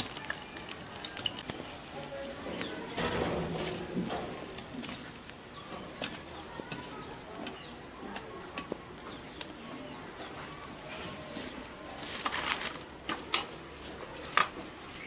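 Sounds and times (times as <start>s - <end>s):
small birds chirping: 0.0s - 13.1s.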